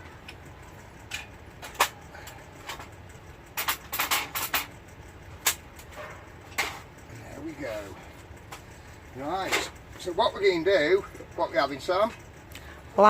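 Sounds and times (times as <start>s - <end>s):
camping stoves clicking and clattering: 0.0s - 13.0s.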